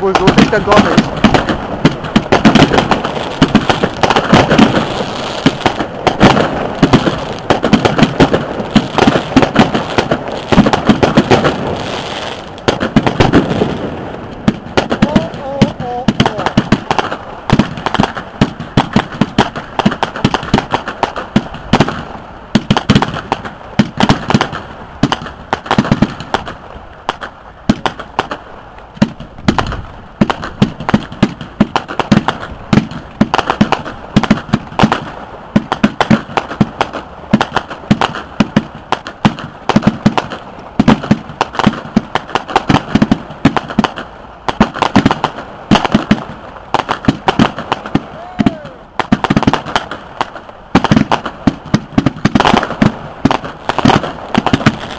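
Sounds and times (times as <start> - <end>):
fireworks bangs and crackling: 0.0 - 54.9.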